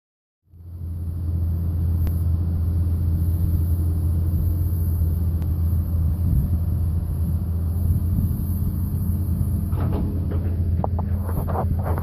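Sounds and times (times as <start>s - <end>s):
diesel engine rumbling: 0.5s - 12.0s.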